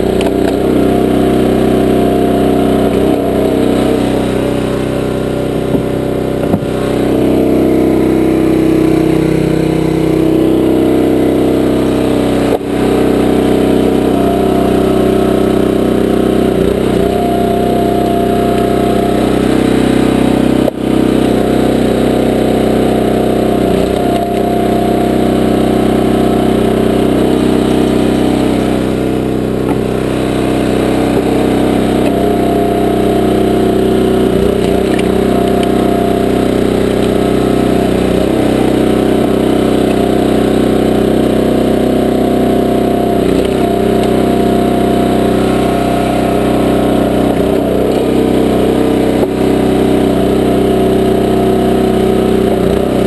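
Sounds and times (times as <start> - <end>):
small gas engine running: 0.0 - 53.0.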